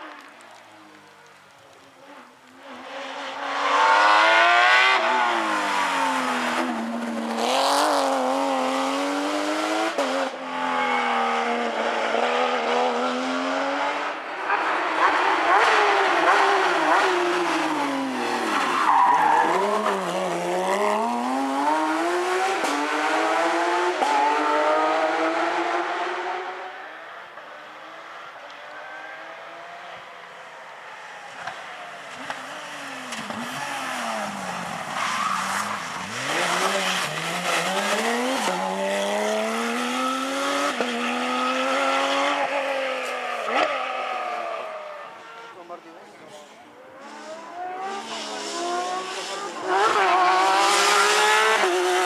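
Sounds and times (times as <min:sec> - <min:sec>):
rally car engine revving: 0:02.1 - 0:26.7, 0:31.4 - 0:45.6, 0:46.4 - 0:52.0.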